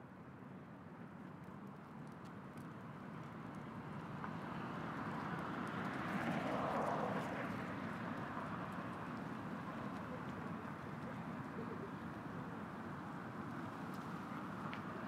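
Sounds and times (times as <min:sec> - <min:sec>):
city street noise: 0:00.0 - 0:15.0.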